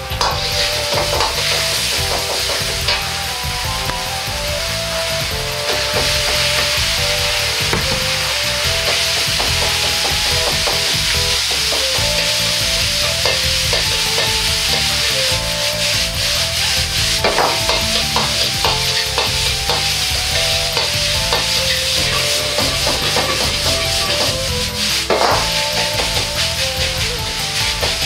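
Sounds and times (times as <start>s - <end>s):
metal ladle scraping wok: 0.0s - 28.0s
rice sizzling in wok: 0.0s - 28.0s.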